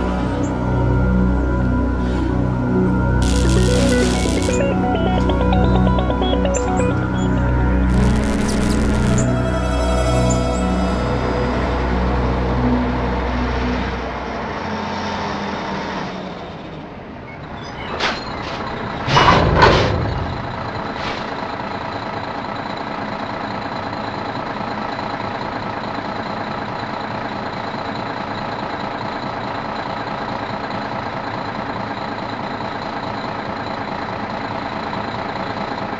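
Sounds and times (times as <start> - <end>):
diesel engine running with whine: 0.0 - 17.6, 19.9 - 35.9.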